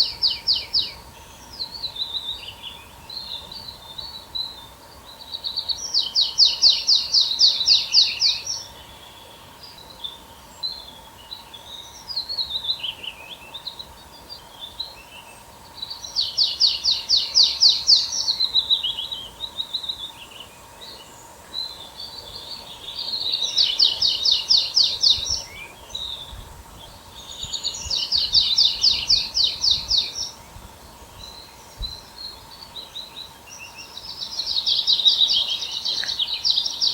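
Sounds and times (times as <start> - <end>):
songbird trilling: 0.0 - 15.2, 15.8 - 36.9.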